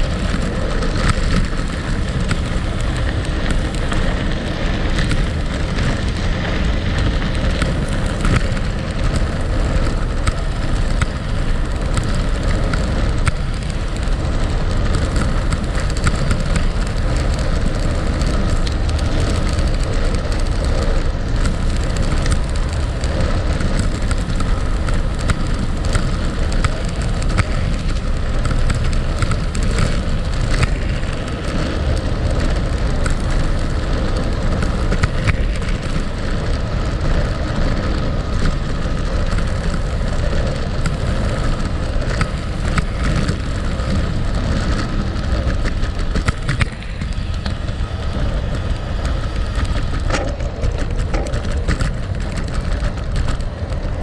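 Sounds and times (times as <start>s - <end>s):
bike tyres rolling on gravel: 0.0s - 54.0s.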